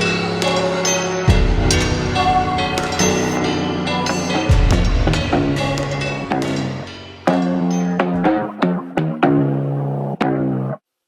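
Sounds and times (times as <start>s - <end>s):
percussion hits: 0.0s - 9.3s
background music with chords: 0.0s - 10.8s.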